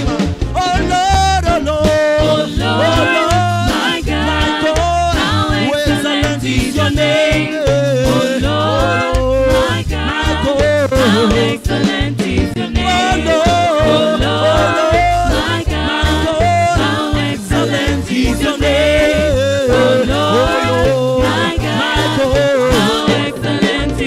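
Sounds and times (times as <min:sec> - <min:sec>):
bass guitar: 0:00.0 - 0:24.0
drums: 0:00.0 - 0:24.0
keyboard: 0:00.0 - 0:24.0
backing vocalists singing: 0:00.6 - 0:24.0
person singing lead: 0:00.6 - 0:24.0.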